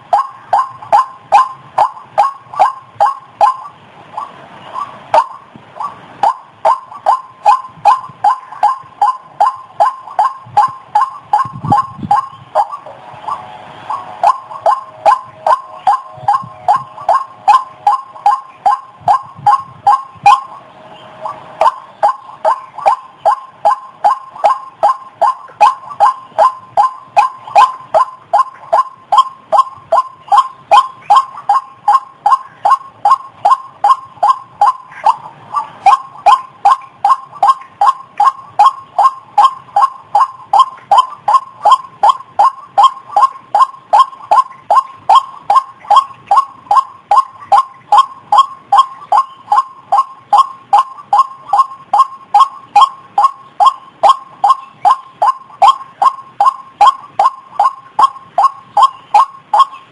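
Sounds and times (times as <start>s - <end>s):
bird calling monotonous short notes: 0.0s - 59.9s.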